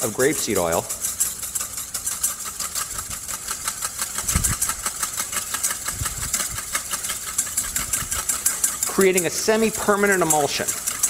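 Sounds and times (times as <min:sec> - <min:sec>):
whisk beating in metal bowl: 0:00.0 - 0:11.0.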